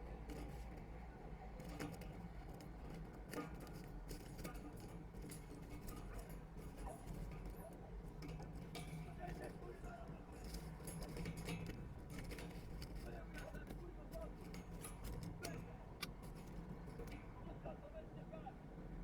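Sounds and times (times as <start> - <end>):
bird scratching in gravel: 1.6 - 17.2.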